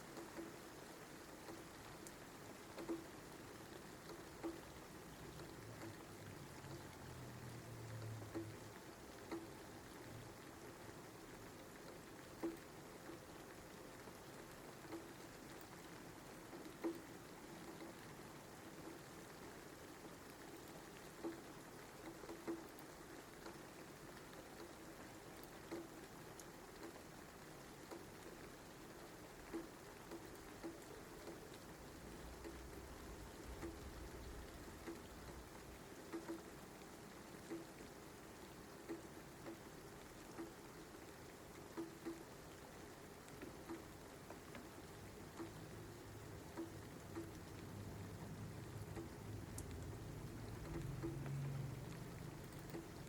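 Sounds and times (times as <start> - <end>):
faint rain: 0.0 - 53.0
single raindrops falling: 0.0 - 53.0.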